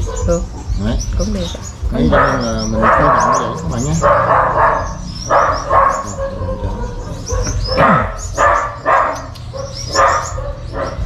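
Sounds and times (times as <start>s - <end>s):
dog barking: 0.0s - 0.5s, 2.0s - 11.0s
caged birds chirping: 0.0s - 11.0s.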